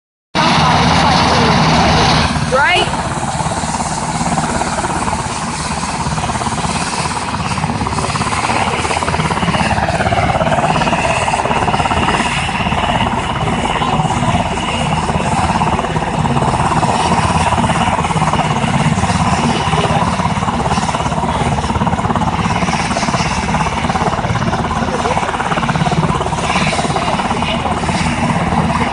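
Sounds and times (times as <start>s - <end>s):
helicopter engine whine: 0.4s - 28.9s
helicopter rotor pulsing: 0.4s - 28.9s.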